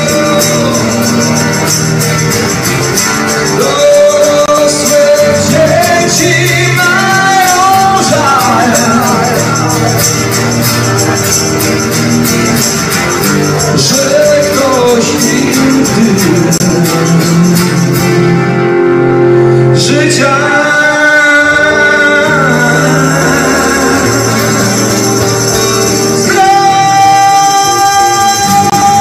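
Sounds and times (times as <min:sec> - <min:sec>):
man singing: 0:00.0 - 0:02.5, 0:03.1 - 0:11.1, 0:13.4 - 0:18.5, 0:19.6 - 0:29.0
hand percussion shaking rhythm: 0:00.0 - 0:18.5, 0:22.3 - 0:29.0
strummed acoustic guitars: 0:00.0 - 0:29.0.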